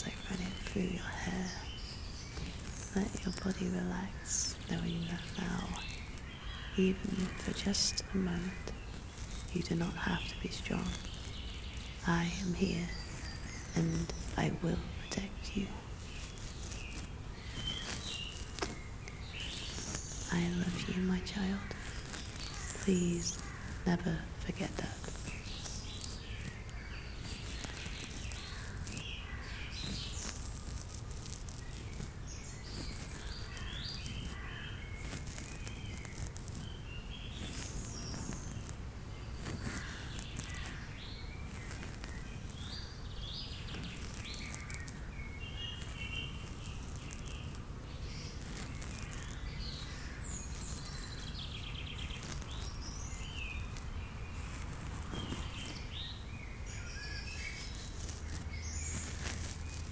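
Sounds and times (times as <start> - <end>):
low outdoor background noise: 0.0 - 59.9
small birds chirping: 0.0 - 59.9.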